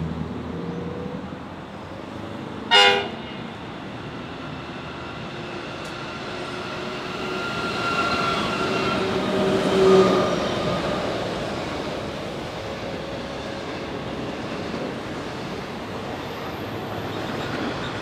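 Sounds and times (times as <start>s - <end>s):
diesel locomotive engine: 0.0s - 18.0s.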